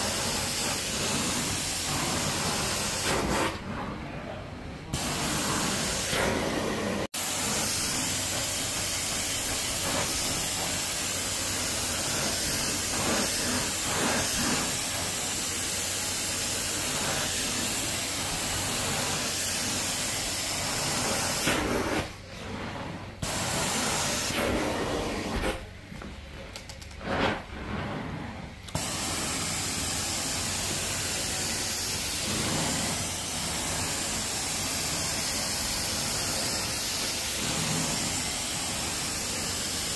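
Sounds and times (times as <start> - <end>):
carpet extraction wand hissing: 0.0 - 3.6, 5.0 - 22.1, 23.2 - 25.7, 28.6 - 39.9.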